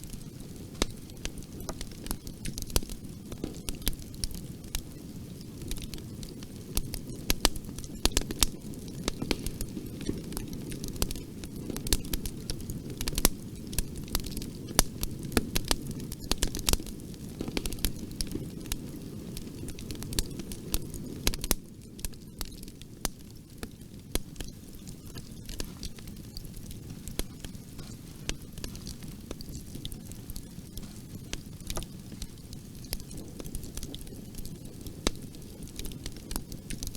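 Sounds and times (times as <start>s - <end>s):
bonfire flames rumbling: 0.0s - 36.9s
burning wood crackling and popping: 0.0s - 36.9s.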